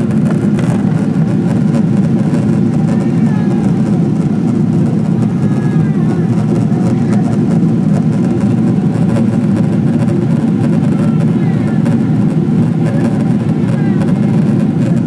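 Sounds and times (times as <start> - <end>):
jet cabin engine roar: 0.0 - 15.0.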